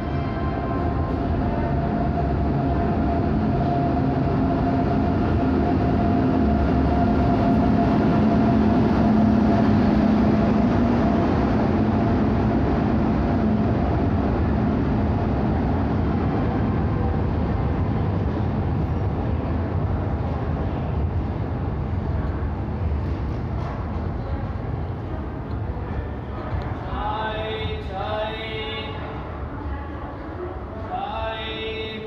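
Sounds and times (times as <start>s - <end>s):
train coaches rolling past: 0.0s - 32.0s.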